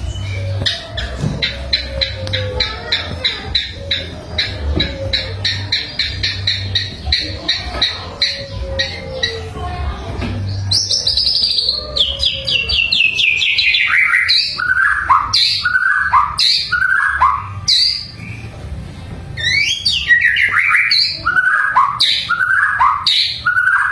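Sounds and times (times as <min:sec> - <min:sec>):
bird singing: 0:00.0 - 0:23.9.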